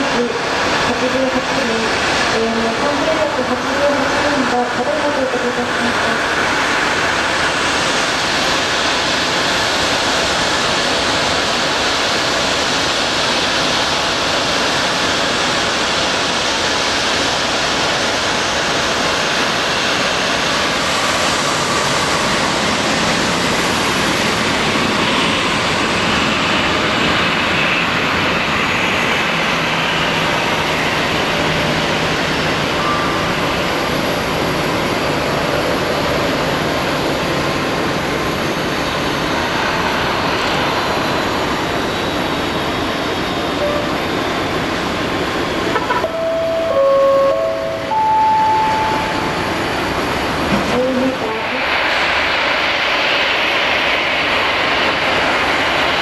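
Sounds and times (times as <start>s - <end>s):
high jet engine whine: 0.0s - 56.0s
jet engines rushing: 0.0s - 56.0s.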